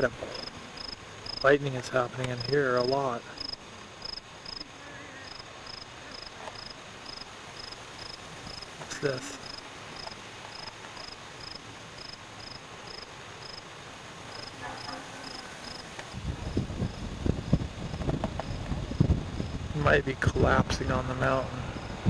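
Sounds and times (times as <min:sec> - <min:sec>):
cricket chirping: 0:00.0 - 0:01.7, 0:02.3 - 0:13.7, 0:14.3 - 0:19.6.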